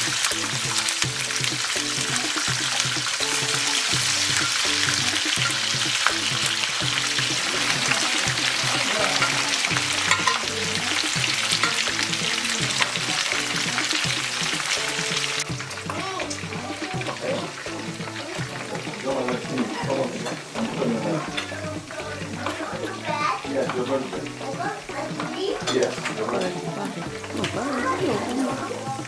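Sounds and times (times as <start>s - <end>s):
prawns sizzling in hot oil: 0.0s - 29.0s.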